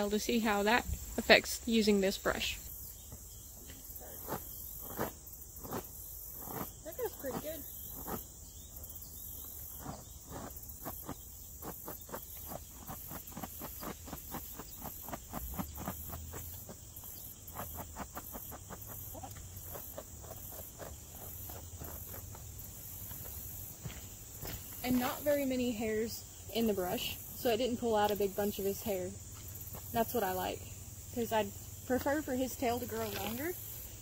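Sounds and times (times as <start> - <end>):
insects chirping: 0.0 - 34.0
stiff brush raking through tail: 3.7 - 30.4, 32.0 - 34.0.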